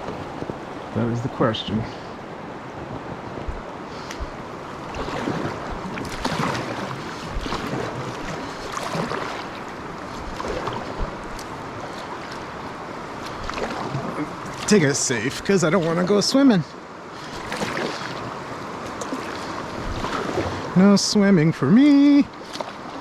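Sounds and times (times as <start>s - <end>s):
river water rushing: 0.0s - 23.0s
paddle strokes splashing: 3.5s - 23.0s.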